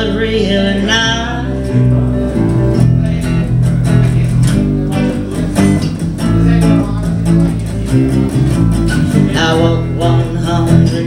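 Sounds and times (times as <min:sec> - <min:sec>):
bass guitar notes: 0:00.0 - 0:11.0
strummed guitar chords: 0:00.0 - 0:11.0.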